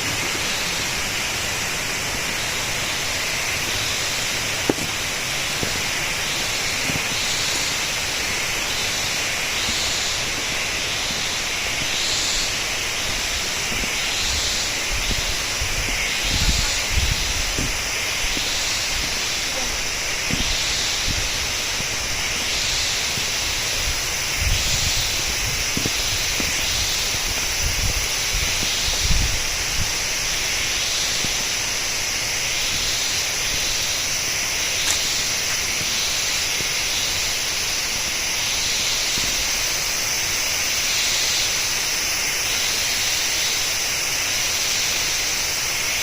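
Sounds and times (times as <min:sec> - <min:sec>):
waterfall rushing hiss: 0:00.0 - 0:46.0.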